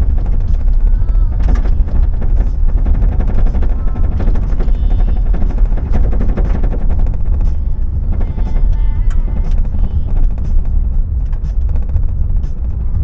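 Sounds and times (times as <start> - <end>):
knocks and rattles: 0.0 - 13.0
vehicle road rumble: 0.0 - 13.0.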